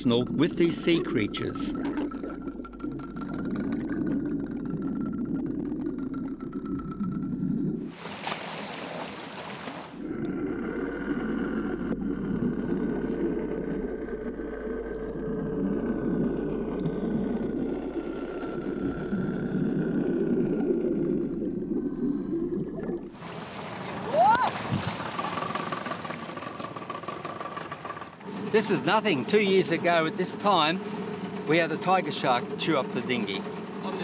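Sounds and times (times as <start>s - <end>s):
outboard motor running: 0.0s - 22.3s, 23.1s - 34.0s.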